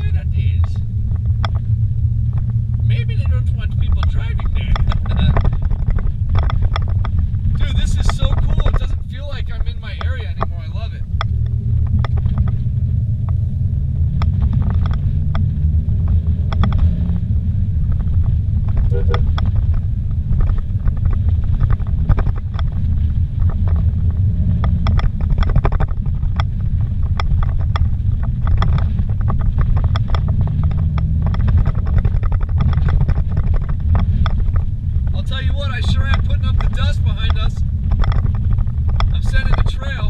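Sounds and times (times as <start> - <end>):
engine and tyres rumbling: 0.0 - 40.0
knocks and rattles from rough road: 0.0 - 40.0.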